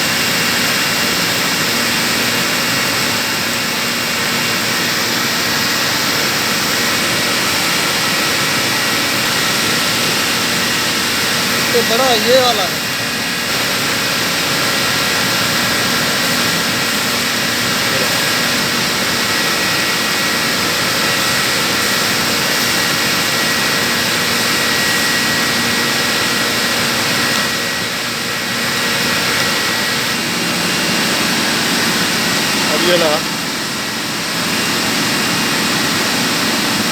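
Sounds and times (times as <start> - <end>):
chiller machinery drone: 0.0 - 36.9.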